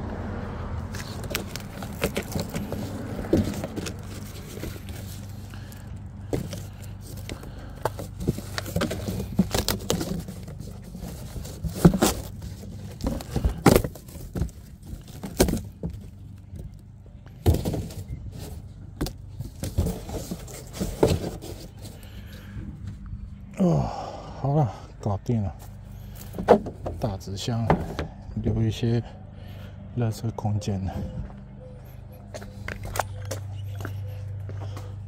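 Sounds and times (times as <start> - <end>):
steady low hum: 0.8 - 35.0.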